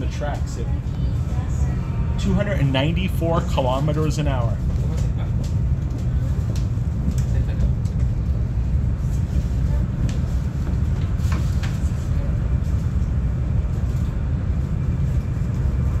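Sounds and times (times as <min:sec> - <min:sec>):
train cabin rumble: 0:00.0 - 0:16.0.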